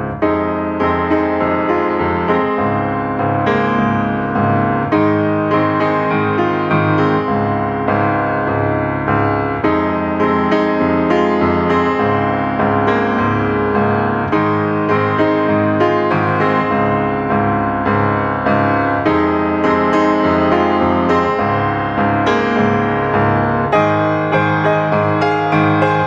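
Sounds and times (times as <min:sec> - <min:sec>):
gentle piano tune: 0:00.0 - 0:26.0.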